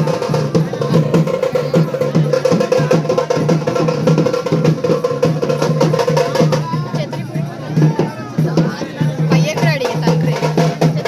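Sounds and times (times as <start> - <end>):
fast rhythmic drumming: 0.0 - 11.0.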